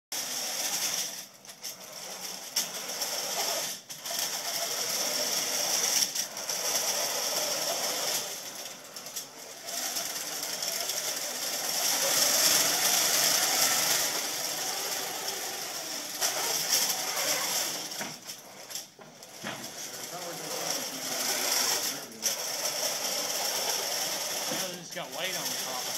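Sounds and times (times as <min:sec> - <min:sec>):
robot motors whirring: 0:00.2 - 0:25.9.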